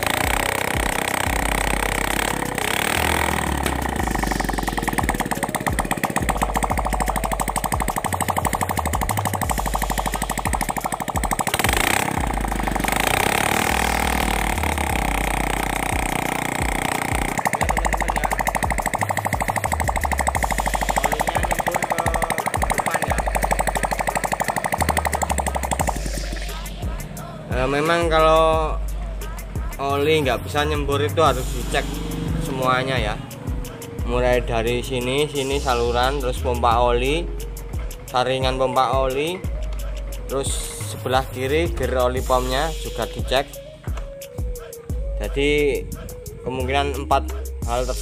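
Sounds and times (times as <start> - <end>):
motorcycle engine running: 0.0 - 46.3.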